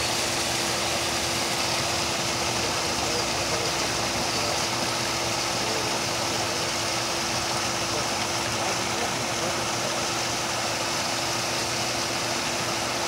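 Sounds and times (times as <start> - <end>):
small waterfall pouring into pond: 0.0 - 13.0
steady hum: 0.0 - 13.0.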